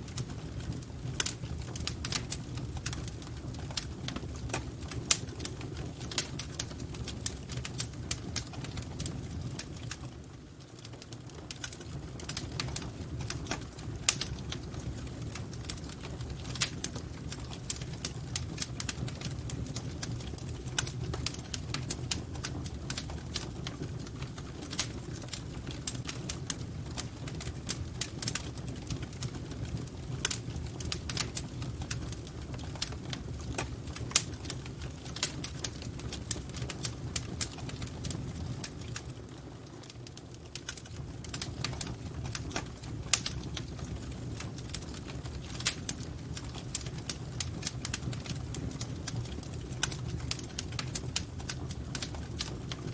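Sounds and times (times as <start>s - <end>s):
fire low rumble: 0.0s - 52.9s
fire pops and snaps: 0.0s - 52.9s.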